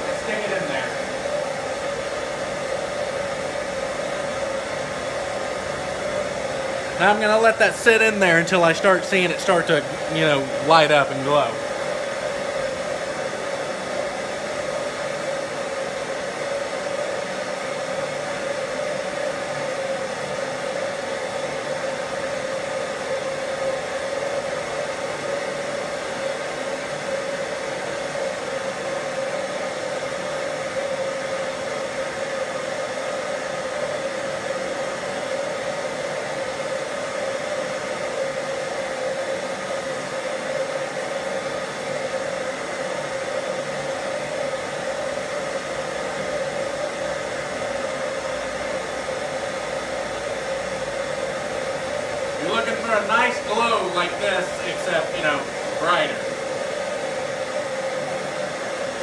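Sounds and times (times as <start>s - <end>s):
forge burner rushing: 0.0s - 59.0s.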